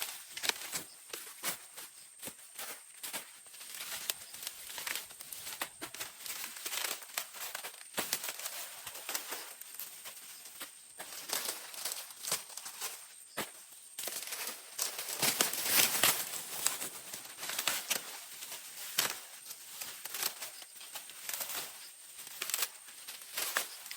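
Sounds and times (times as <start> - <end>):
dry corn leaves rustling: 0.0 - 23.9.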